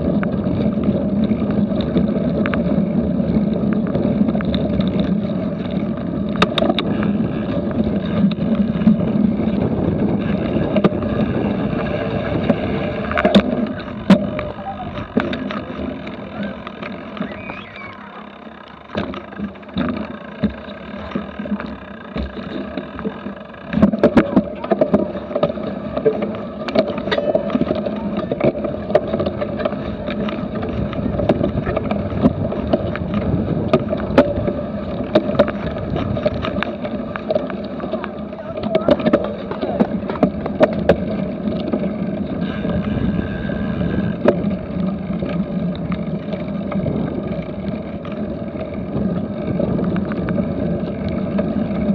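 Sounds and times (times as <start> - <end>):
wind on microphone: 0.0 - 18.1, 27.0 - 51.9
bike knocking and rattling: 0.0 - 51.9.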